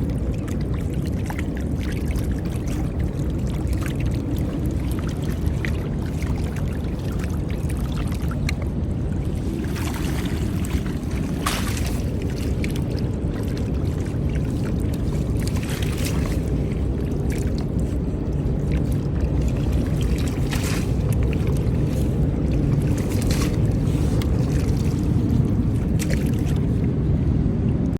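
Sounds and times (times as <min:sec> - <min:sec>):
small boat motor rumbling: 0:00.0 - 0:27.9
water splashing: 0:00.0 - 0:27.9.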